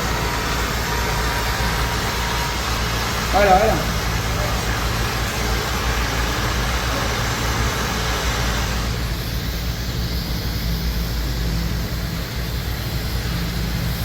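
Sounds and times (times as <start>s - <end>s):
low electrical and mechanical hum: 0.0s - 14.0s
plasma cutter hissing: 0.0s - 14.0s.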